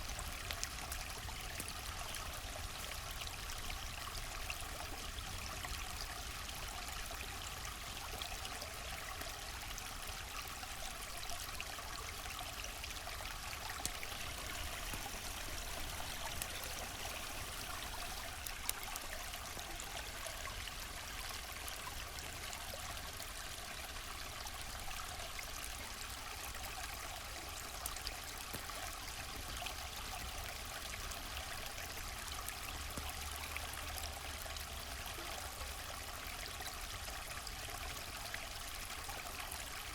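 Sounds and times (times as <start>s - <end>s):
river water flowing: 2.8s - 39.9s.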